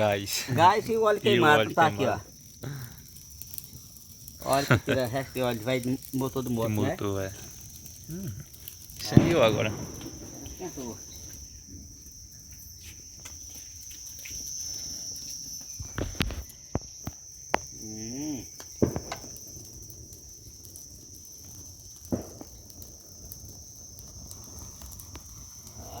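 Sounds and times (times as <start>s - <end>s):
bonfire popping and cracking: 0.0s - 26.0s
crickets trilling: 0.0s - 26.0s.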